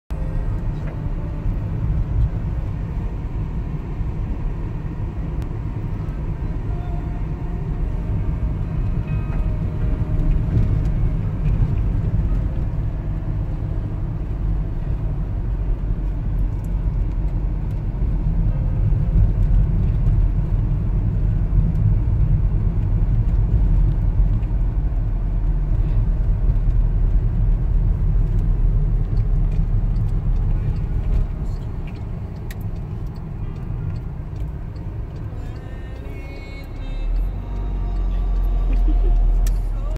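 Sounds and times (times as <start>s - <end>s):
car engine and tyres rumbling: 0.1s - 39.9s.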